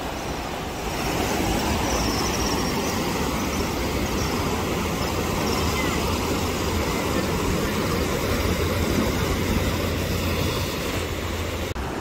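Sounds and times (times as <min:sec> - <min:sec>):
turbulent river water rushing: 0:00.0 - 0:12.0.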